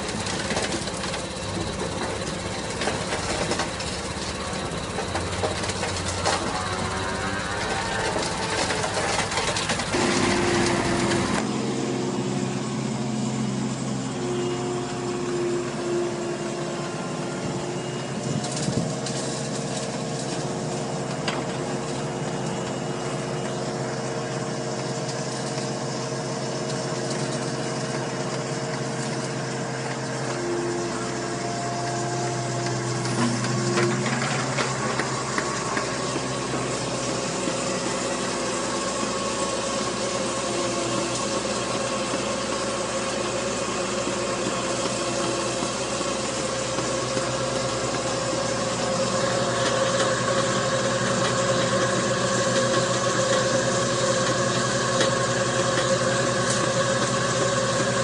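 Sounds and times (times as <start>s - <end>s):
belt conveyor running: 0.0s - 58.0s
excavator engine: 0.0s - 58.0s.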